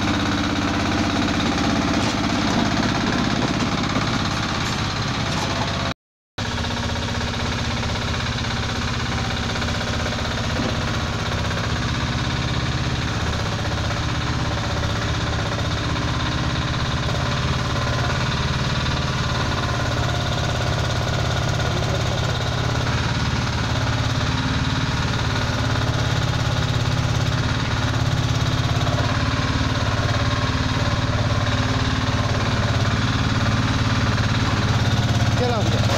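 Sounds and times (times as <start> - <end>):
mini loader engine running: 0.0 - 35.9.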